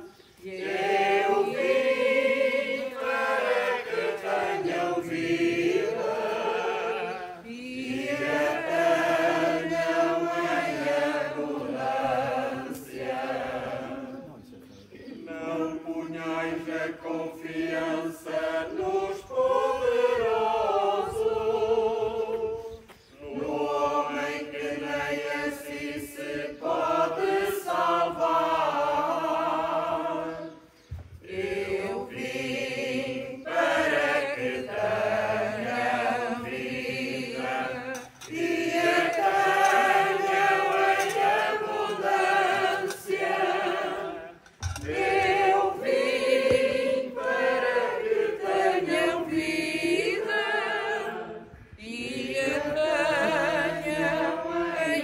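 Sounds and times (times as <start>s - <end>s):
group singing a slow hymn: 0.0s - 55.0s.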